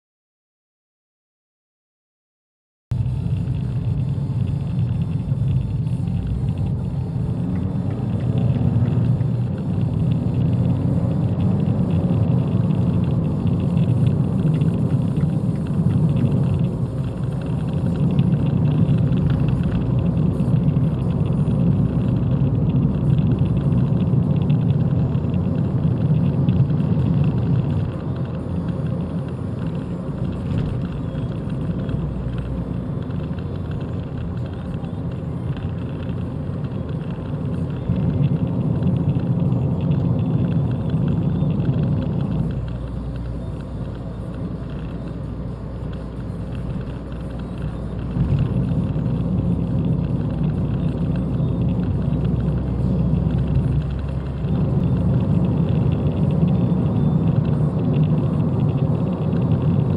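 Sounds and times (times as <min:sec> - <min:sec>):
car engine and road rumble: 0:02.9 - 0:59.9.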